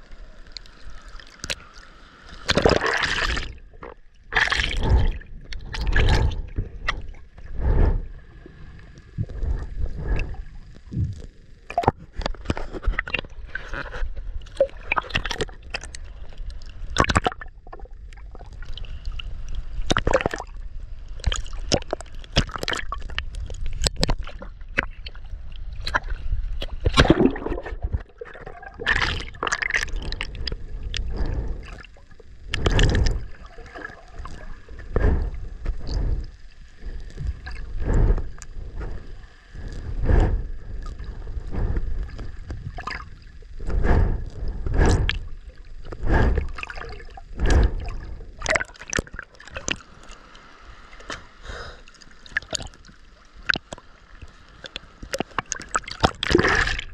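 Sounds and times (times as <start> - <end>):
water splashes: 0.0 - 20.6, 21.2 - 56.9
water sloshing and gurgling: 0.0 - 56.9.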